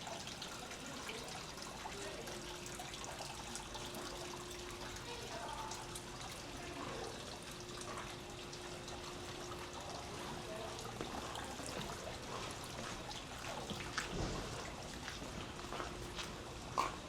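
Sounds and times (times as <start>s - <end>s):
faint steady hum: 0.0s - 17.0s
running water pouring: 0.0s - 17.0s.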